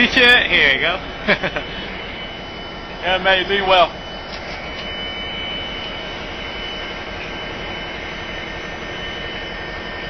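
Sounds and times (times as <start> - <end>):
diesel locomotive engine running: 0.0 - 10.0
faint high whine: 0.0 - 10.0.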